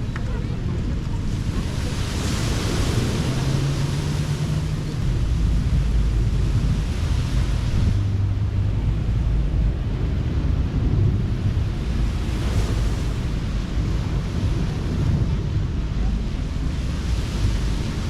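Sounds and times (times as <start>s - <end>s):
surf washing onto a beach: 0.0s - 18.0s
wind rumbling on microphone: 0.0s - 18.0s.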